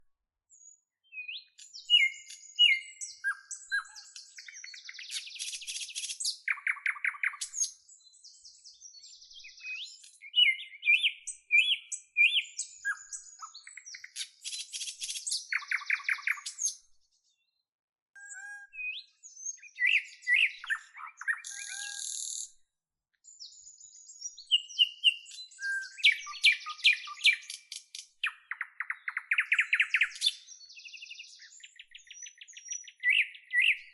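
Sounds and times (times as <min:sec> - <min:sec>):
songbird singing: 0:00.5 - 0:33.9.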